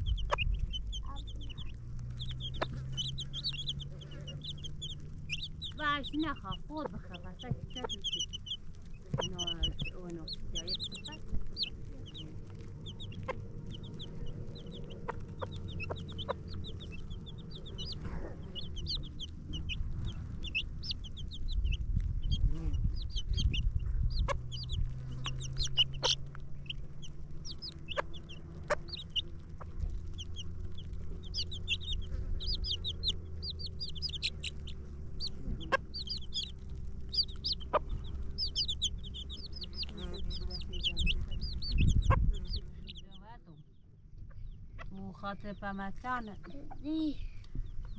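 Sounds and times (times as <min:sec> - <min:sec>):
chicks cheeping: 0:00.0 - 0:47.9
low rumble: 0:00.0 - 0:47.9.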